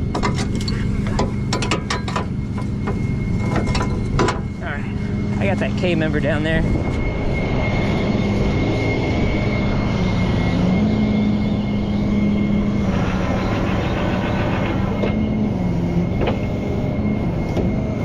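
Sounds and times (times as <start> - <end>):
thin high whine: 0.0 - 18.0
truck engine droning: 0.0 - 18.0.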